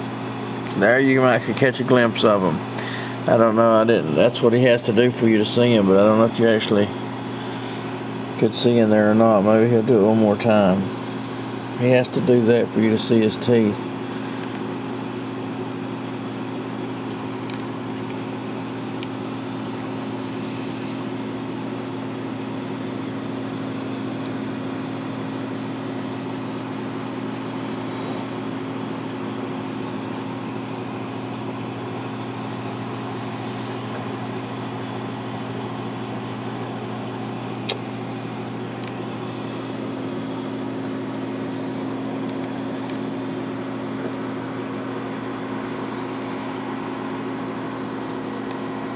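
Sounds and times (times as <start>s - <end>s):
low electrical hum: 0.0s - 48.9s
aquarium equipment hiss: 0.9s - 3.8s, 6.9s - 8.4s, 10.9s - 48.9s.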